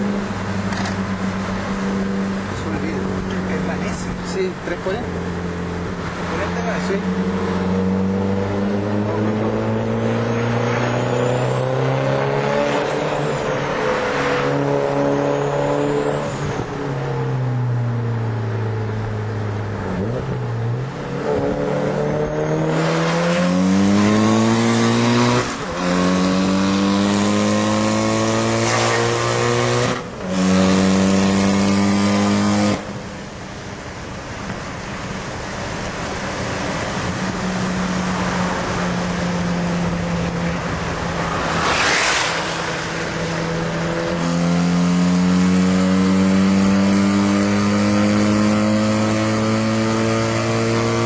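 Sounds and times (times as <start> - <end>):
car engine revving: 0.0 - 33.3, 36.3 - 51.0.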